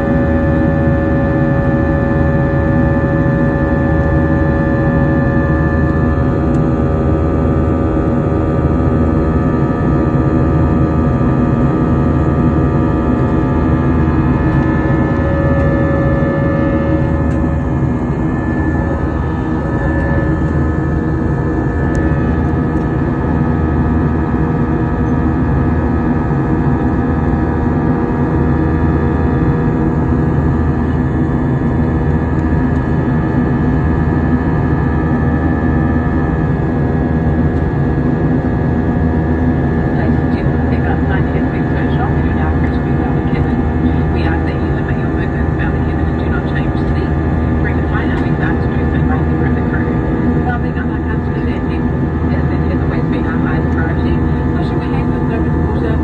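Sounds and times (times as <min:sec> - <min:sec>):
jet engines in cabin: 0:00.0 - 0:56.0.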